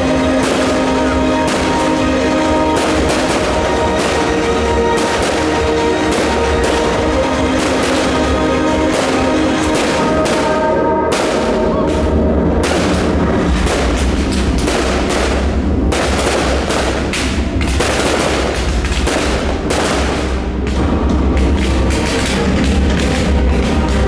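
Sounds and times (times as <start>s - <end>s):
firework explosions: 0.0s - 24.0s
music playing: 0.0s - 24.0s.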